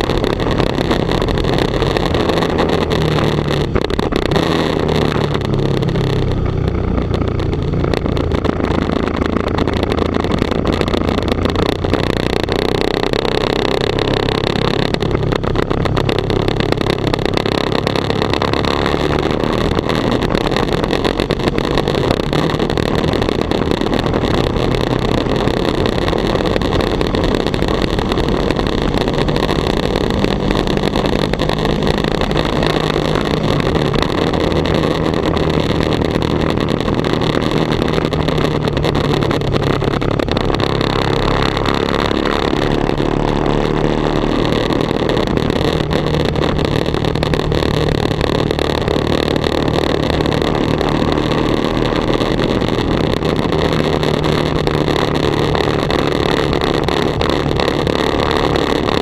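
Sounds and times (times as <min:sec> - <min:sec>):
motorcycle engine drone: 0:00.0 - 0:59.0
wind rushing on microphone: 0:00.0 - 0:59.0.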